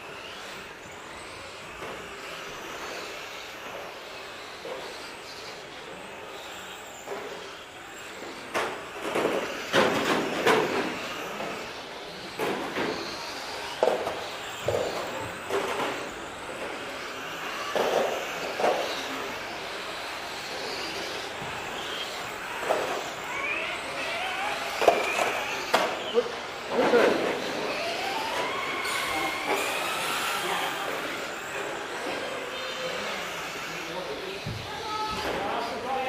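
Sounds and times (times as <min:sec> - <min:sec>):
rc car motor and tyres hissing: 0:00.0 - 0:36.0.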